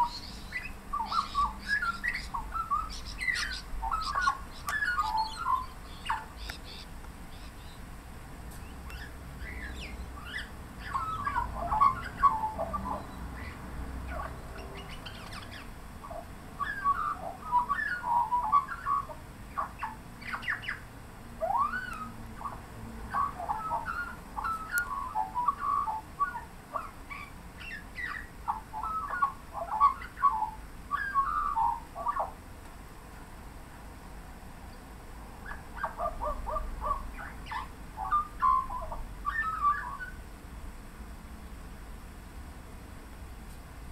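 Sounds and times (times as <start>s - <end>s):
magpie warbling: 0.0s - 7.8s, 8.9s - 32.4s, 35.5s - 40.2s.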